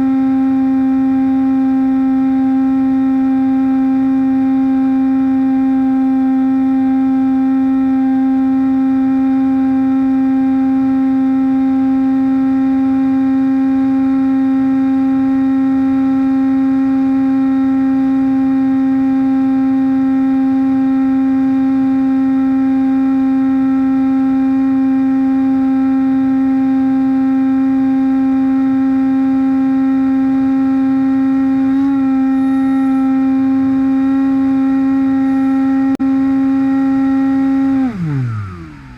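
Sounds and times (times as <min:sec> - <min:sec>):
model plane motor humming: 0:00.0 - 0:38.9.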